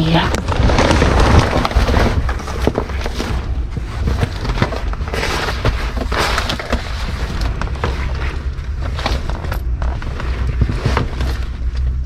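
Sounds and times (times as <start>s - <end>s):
crackling and rustling: 0.0s - 12.0s
rustling through bag of clothes: 0.0s - 12.0s
small cracks and knocks: 0.3s - 12.0s.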